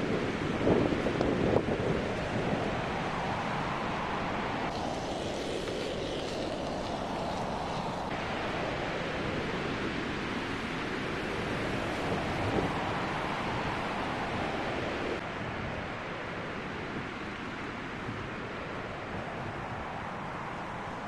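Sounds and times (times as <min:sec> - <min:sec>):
strong wind blowing: 0:00.0 - 0:21.0.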